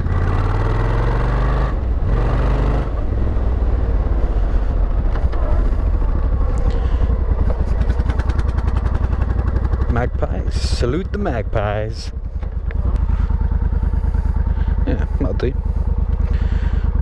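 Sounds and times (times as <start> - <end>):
motorcycle engine riding slowly: 0.0 - 17.0.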